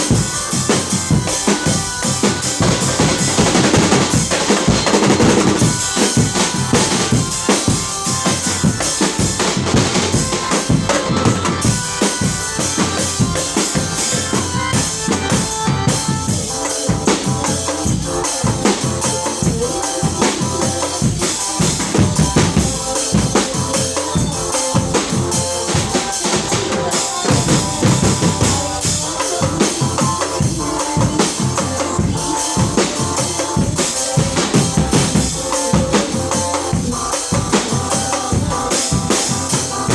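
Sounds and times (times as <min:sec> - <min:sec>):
bass drum and snare beat: 0:00.0 - 0:39.9.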